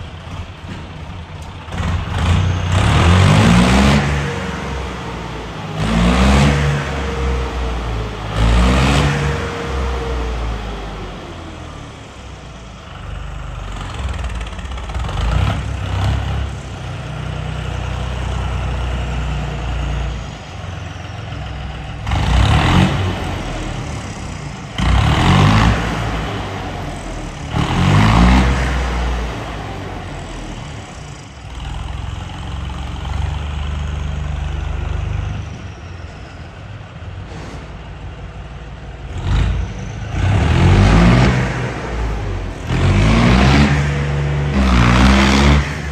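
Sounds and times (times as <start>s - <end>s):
tractor diesel engine revving: 0.0s - 45.9s.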